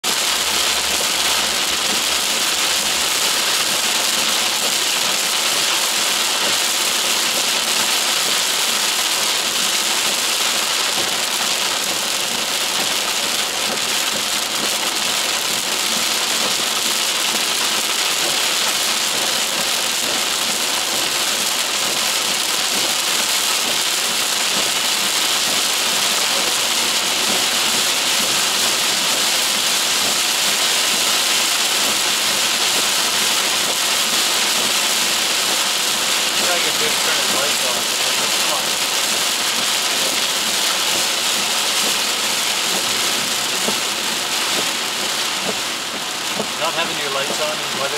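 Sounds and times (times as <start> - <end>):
heavy rain on car roof: 0.0 - 47.9.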